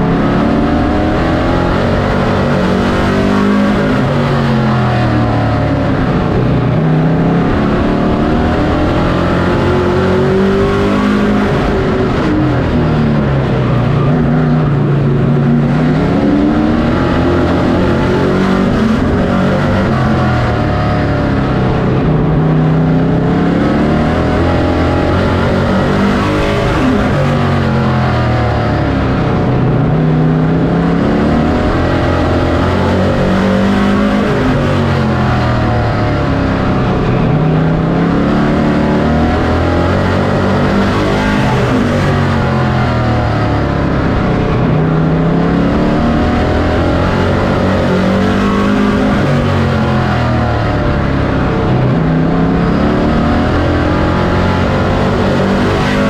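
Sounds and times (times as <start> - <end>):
race truck engine revving: 0.0 - 56.0.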